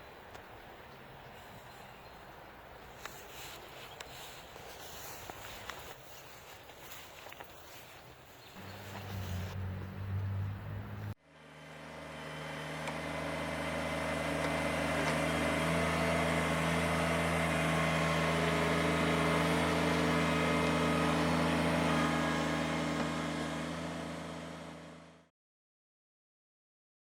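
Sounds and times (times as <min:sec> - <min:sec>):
engine running steadily: 0:02.8 - 0:25.3.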